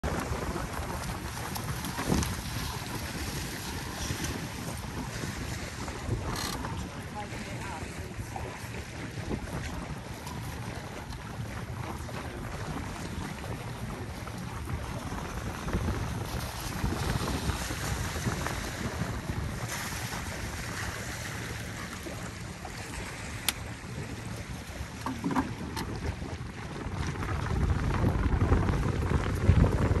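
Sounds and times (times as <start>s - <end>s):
water lapping around a boat: 0.0s - 30.0s
wind buffeting microphone: 0.0s - 30.0s.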